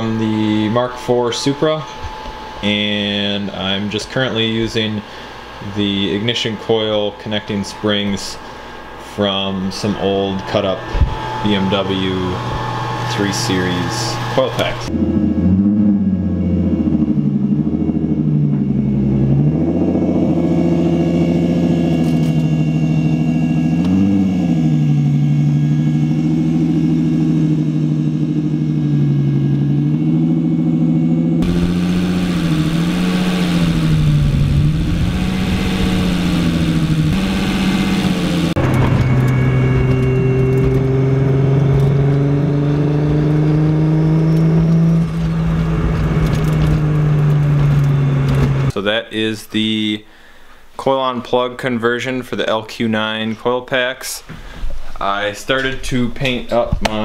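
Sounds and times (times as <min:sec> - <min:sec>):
car engine idling and revving: 0:00.0 - 0:48.7
engine while driving: 0:00.0 - 0:48.8.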